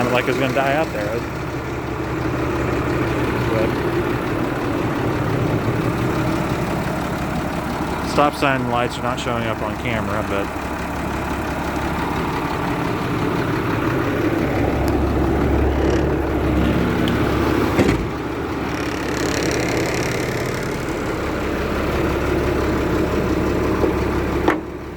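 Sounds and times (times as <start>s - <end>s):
diesel bus engine idling: 0.0s - 24.9s.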